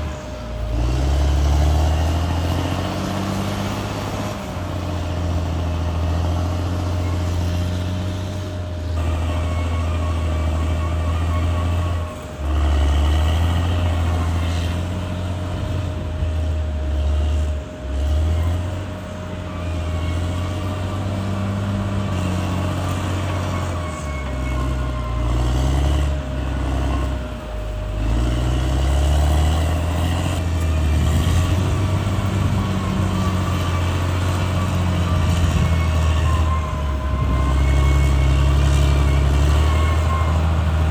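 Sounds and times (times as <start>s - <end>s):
bulldozer diesel engine revving: 0.0s - 40.9s
thin whine: 0.0s - 40.9s.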